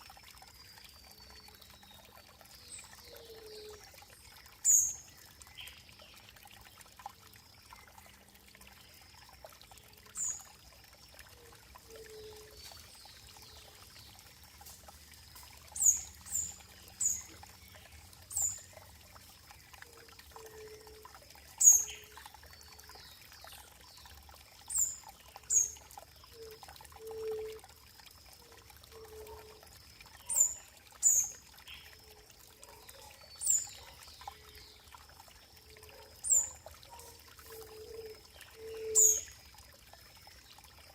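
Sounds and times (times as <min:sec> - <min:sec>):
running water trickling: 0:00.0 - 0:40.9.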